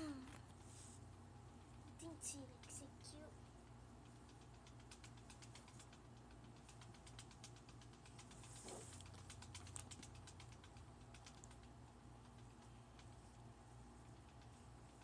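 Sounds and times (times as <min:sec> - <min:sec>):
faint low room hum: 0:00.0 - 0:15.0
light irregular clicks and ticks: 0:00.0 - 0:15.0.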